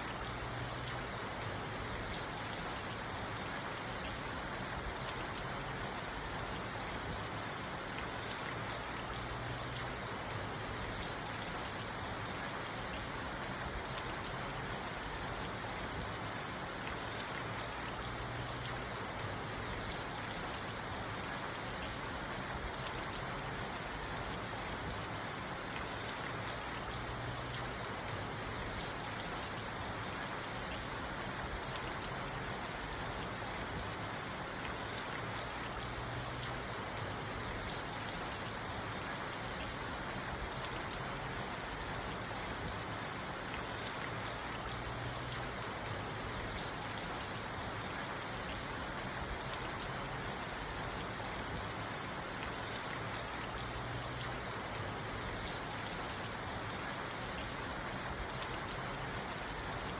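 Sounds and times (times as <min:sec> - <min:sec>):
rain on car roof and glass: 0:00.0 - 0:59.9.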